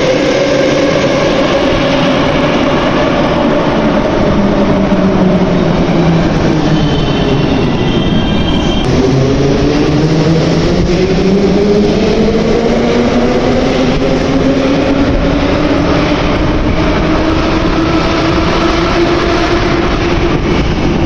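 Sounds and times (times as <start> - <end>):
metro traction motor whine: 0.0 - 21.0
train running rumble: 0.0 - 21.0.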